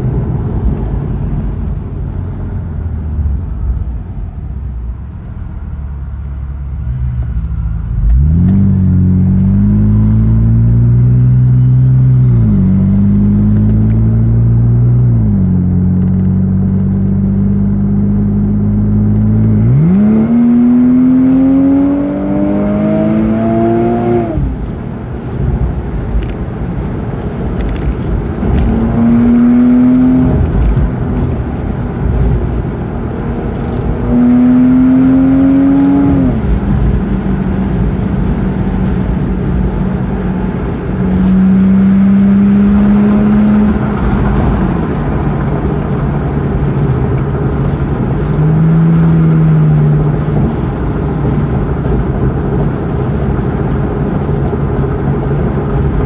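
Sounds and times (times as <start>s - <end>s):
car engine accelerating: 0.0s - 56.0s
road and tyre noise: 0.0s - 56.0s.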